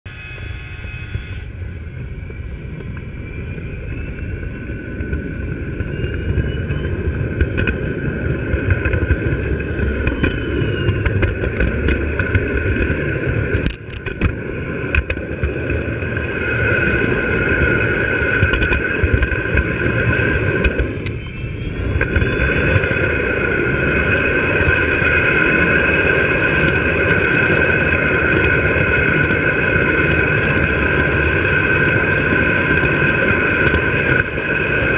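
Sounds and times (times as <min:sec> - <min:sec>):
model train rumbling and whining: 0:00.1 - 0:34.9.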